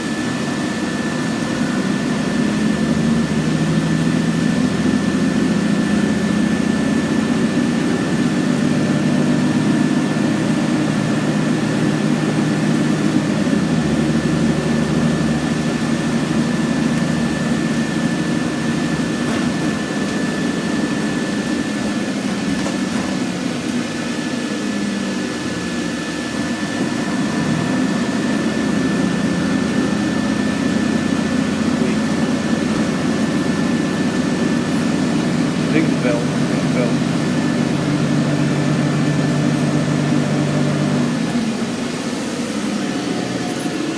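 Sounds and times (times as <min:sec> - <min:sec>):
bus diesel engine drone: 0:00.0 - 0:43.9.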